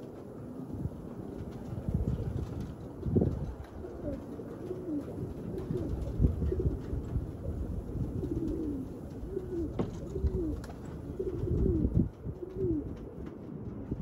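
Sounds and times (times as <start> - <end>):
wind rumble on microphone: 0.0 - 14.0
pigeons cooing: 1.7 - 13.2.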